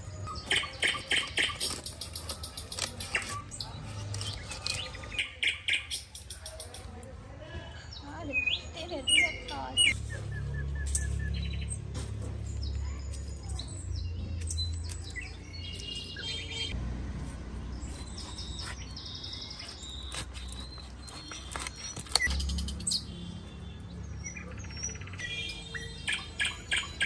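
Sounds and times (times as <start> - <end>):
small birds chirping: 0.0 - 7.0, 7.6 - 27.0.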